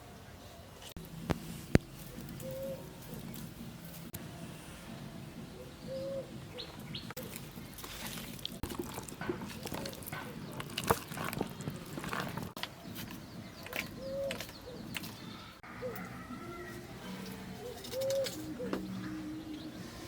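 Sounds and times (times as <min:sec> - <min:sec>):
bird calls: 0:00.0 - 0:20.0.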